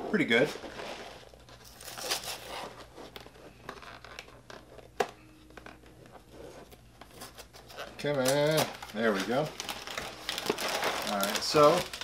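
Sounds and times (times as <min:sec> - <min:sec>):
cardboard tearing and scraping: 0:00.5 - 0:04.8, 0:06.4 - 0:12.0.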